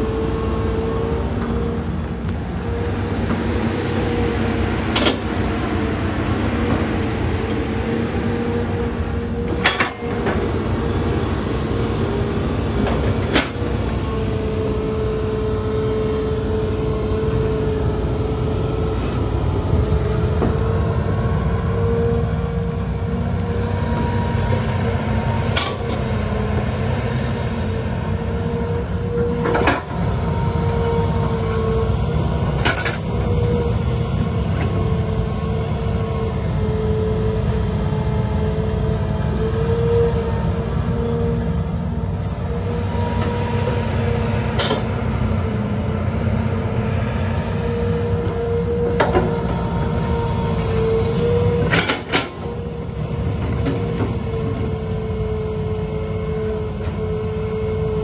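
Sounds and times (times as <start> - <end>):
excavator engine droning with whine: 0.0 - 58.0.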